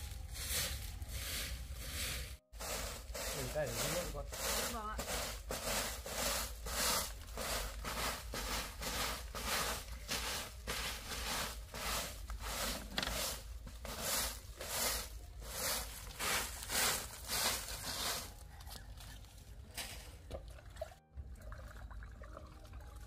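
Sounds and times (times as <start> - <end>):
broom sweeping bare earth: 0.0 - 20.3.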